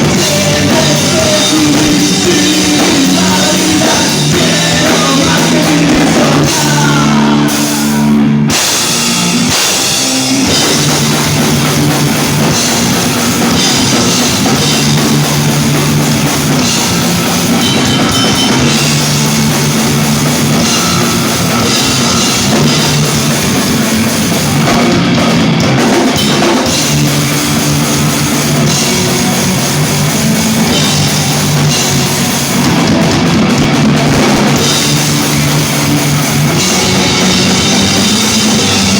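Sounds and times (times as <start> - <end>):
bass guitar: 0.0 - 38.9
drum kit with cymbals: 0.0 - 38.9
electric guitars: 0.0 - 38.9.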